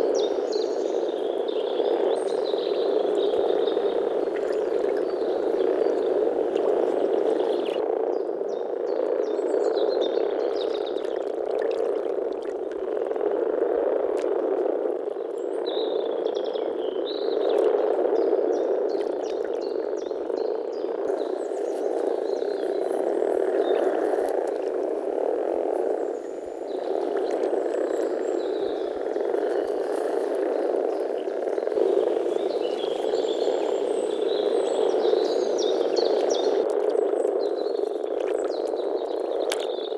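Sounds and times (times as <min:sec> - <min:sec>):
frog chorus: 0:00.0 - 0:39.9.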